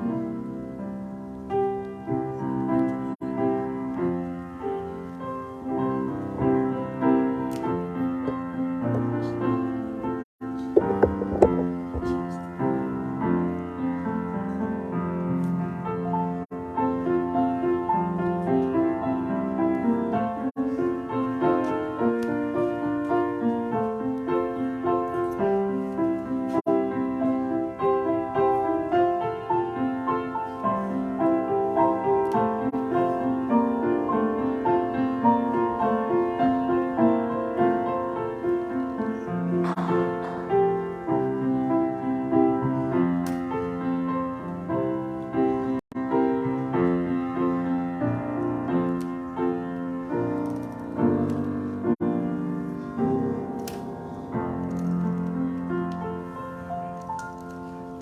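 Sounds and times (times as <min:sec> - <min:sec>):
slow piano piece: 0:00.0 - 0:58.0.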